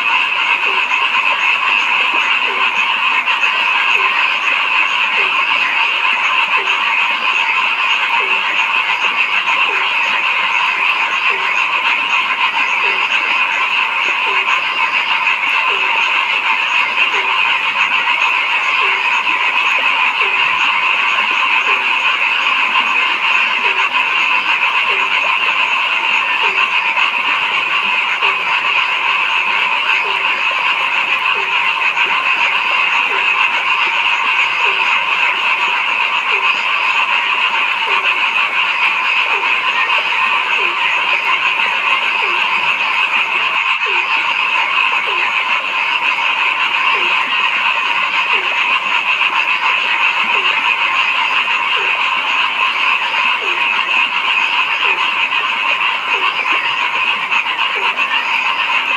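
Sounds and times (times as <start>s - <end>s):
chorus of frogs trilling: 0.0s - 58.9s
deep single frog call: 0.0s - 58.9s.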